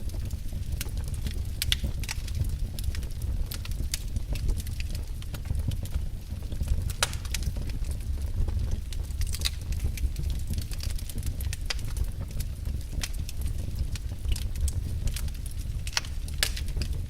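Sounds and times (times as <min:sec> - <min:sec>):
steady low rumble: 0:00.0 - 0:17.0
wood fire crackling and popping: 0:00.0 - 0:17.0.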